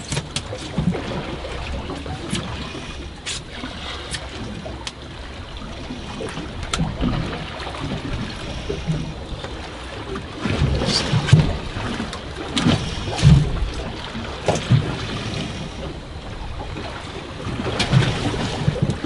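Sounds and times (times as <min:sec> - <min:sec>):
water slapping boat hull: 0:00.0 - 0:19.0.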